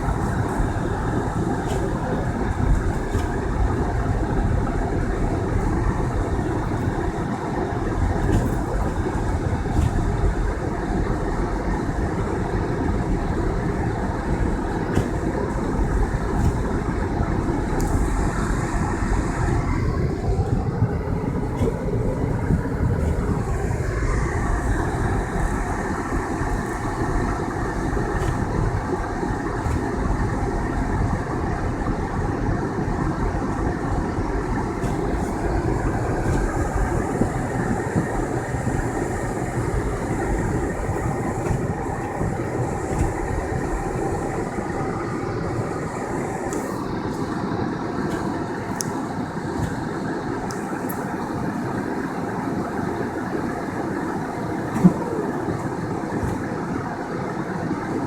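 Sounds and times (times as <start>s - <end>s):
tyres rumbling on snow: 0.0s - 58.0s.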